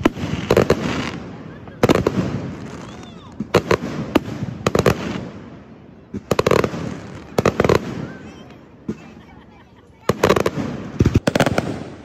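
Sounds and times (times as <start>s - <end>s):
fireworks bangs with echo: 0.0s - 9.4s, 10.0s - 12.0s.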